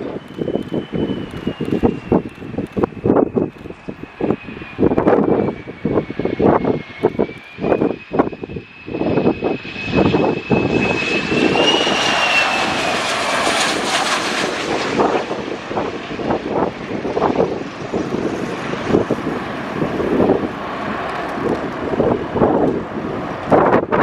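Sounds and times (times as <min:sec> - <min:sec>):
airliner engine whine passing overhead: 0:00.0 - 0:24.0
wind buffeting microphone: 0:00.0 - 0:24.0.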